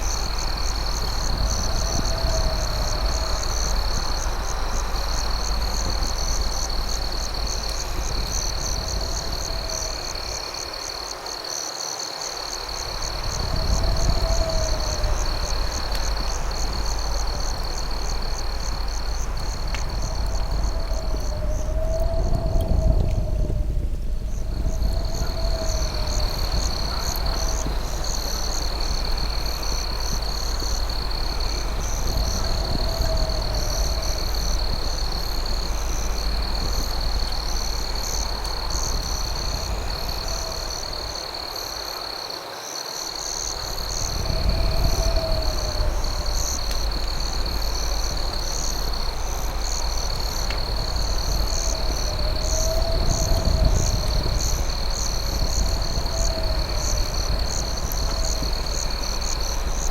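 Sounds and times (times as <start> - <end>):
low rumble: 0.0 - 10.8, 12.5 - 41.5, 43.6 - 59.9
cricket trill: 0.0 - 59.9.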